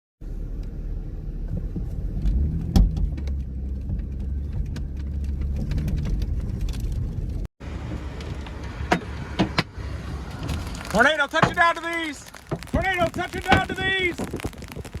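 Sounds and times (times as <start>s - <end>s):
car engine and road rumble: 0.2s - 15.0s.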